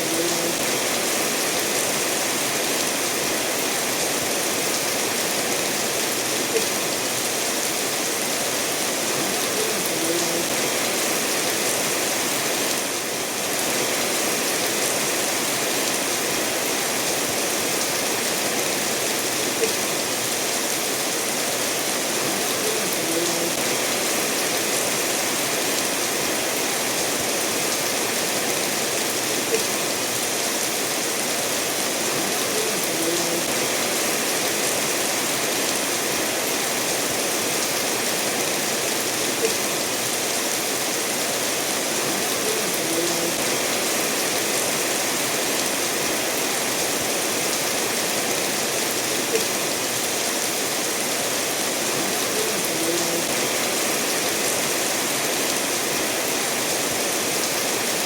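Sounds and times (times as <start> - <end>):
steady rain: 0.0 - 58.0
stream running over stones: 0.0 - 58.0.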